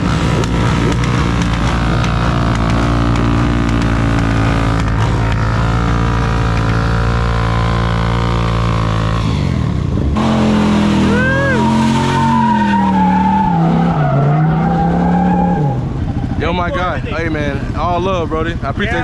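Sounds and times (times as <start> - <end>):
vehicle engine revving high: 0.0 - 18.8.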